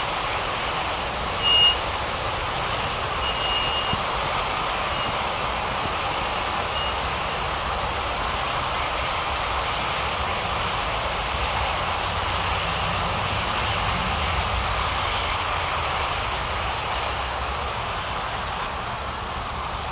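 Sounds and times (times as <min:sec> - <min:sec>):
model train wheels rumbling on rails: 0:00.0 - 0:19.9.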